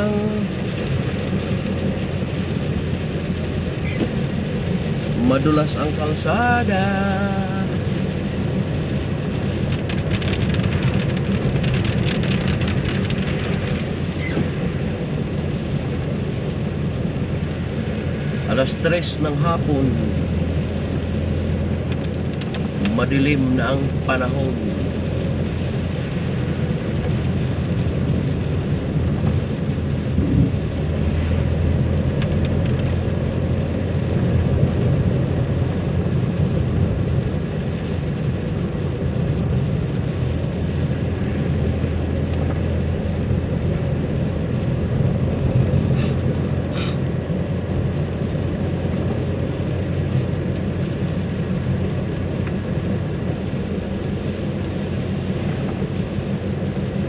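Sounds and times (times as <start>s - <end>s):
car engine drone: 0.0s - 57.0s
rain falling on a car: 0.0s - 57.0s
tyres on a wet road: 0.0s - 57.0s.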